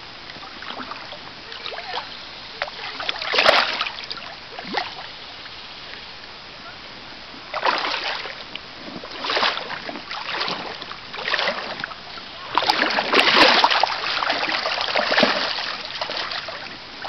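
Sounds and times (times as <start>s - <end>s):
stream water splashing: 0.0s - 17.0s.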